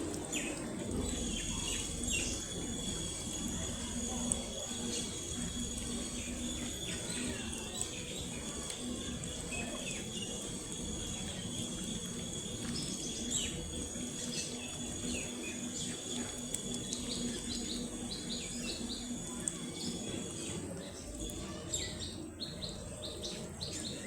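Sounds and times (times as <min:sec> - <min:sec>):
high-pitched hum: 0:00.0 - 0:24.0.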